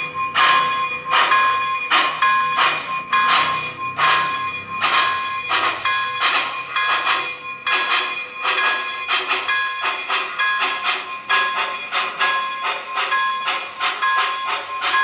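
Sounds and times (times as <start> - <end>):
steady ringing tone: 0.0 - 15.0
steam exhaust chuffs: 0.0 - 15.0.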